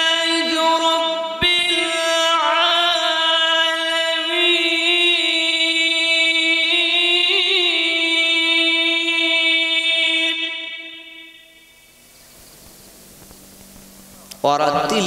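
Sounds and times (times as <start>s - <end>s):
man chanting a long note: 0.0s - 11.8s, 14.4s - 15.0s.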